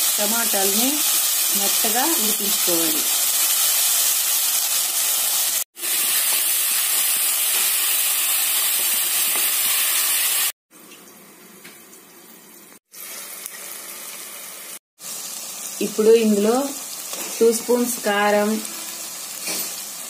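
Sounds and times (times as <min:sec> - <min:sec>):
masala sizzling in hot oil: 0:00.0 - 0:10.6, 0:12.9 - 0:20.0.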